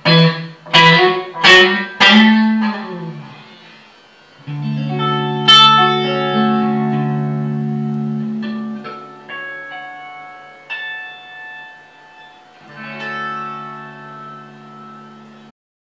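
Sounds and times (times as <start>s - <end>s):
clean electric guitar: 0.0s - 15.5s.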